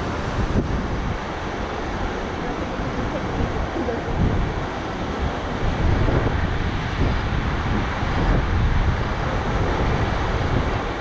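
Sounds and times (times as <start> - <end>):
rushing whitewater roar: 0.0 - 11.0
wind buffeting microphone: 0.0 - 11.0.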